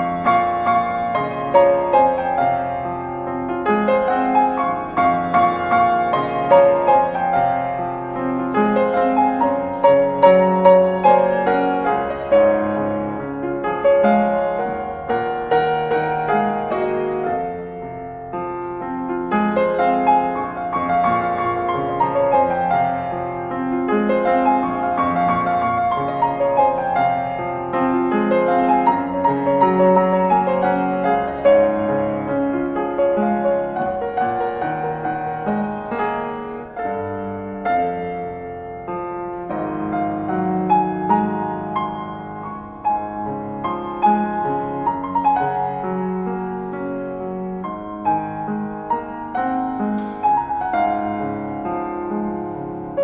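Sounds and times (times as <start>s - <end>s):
piano melody over chords: 0.0s - 53.0s.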